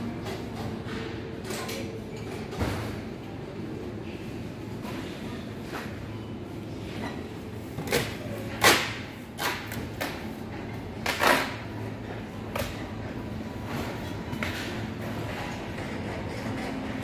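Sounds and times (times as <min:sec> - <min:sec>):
shop hum: 0:00.0 - 0:17.0.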